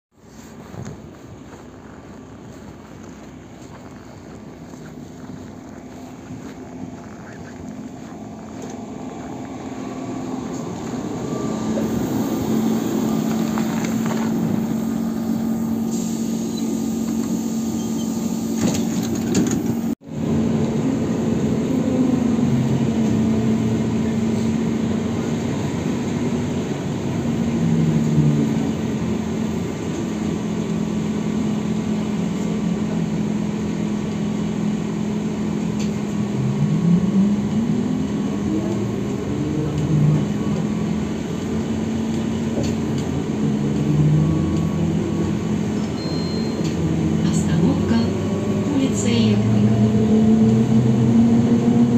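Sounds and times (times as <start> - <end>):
trolleybus electrical hum: 0.2 - 51.9.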